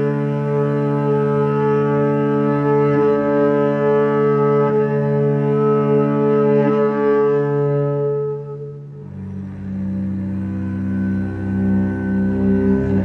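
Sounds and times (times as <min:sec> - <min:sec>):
cello bowed low drone: 0:00.0 - 0:13.0.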